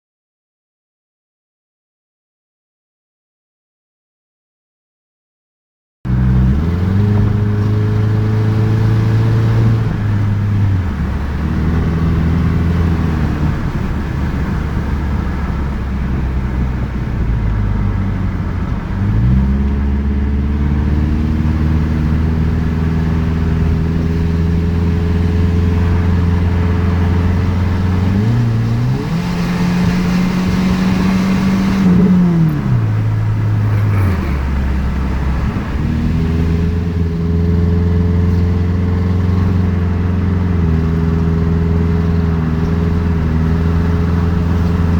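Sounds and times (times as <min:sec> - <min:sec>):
car engine revving: 0:06.1 - 0:44.9.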